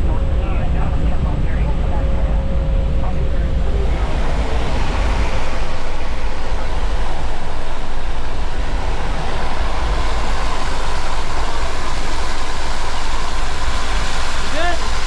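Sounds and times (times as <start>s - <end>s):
microphone rumble: 0.0s - 15.0s
plane engine and propeller drone: 0.0s - 15.0s
wind rushing: 2.4s - 15.0s.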